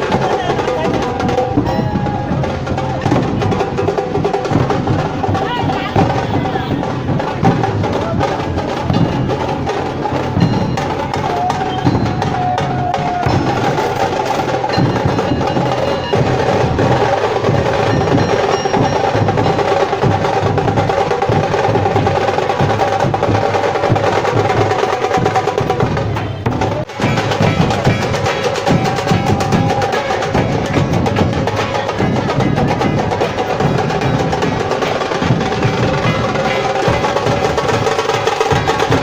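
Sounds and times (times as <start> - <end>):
dhol drums playing fast rhythm: 0.0 - 39.0.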